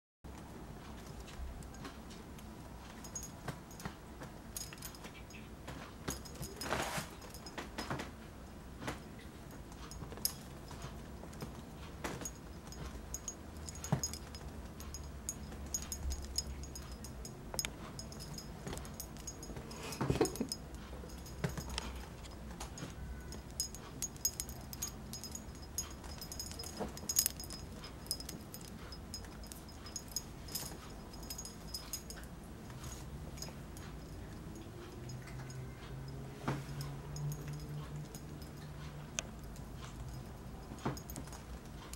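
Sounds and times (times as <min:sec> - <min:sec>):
kittens pouncing and scuffling: 0:02.8 - 0:08.2, 0:08.8 - 0:41.9
faint high ringing: 0:02.8 - 0:41.9.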